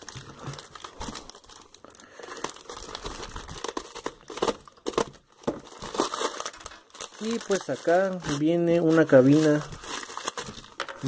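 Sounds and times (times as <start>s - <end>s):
paper wrapping crumpling and tearing: 0.0s - 11.0s.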